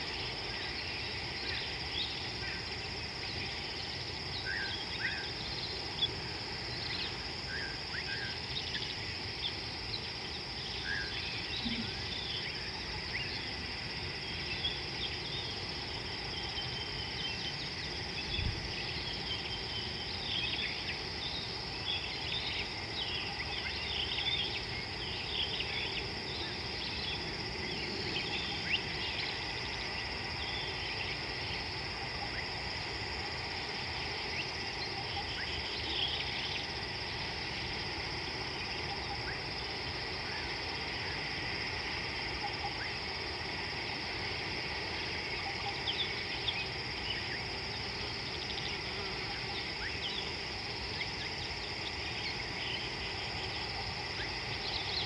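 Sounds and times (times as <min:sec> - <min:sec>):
insect chorus: 0:00.0 - 0:55.0
low background hiss: 0:00.0 - 0:55.0.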